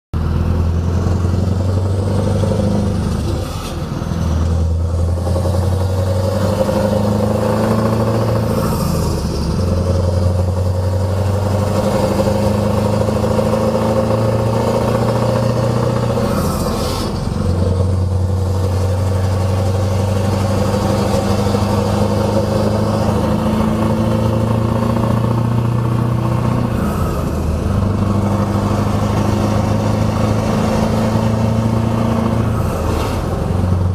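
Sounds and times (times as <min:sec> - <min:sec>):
diesel truck engine drone: 0:00.2 - 0:33.9.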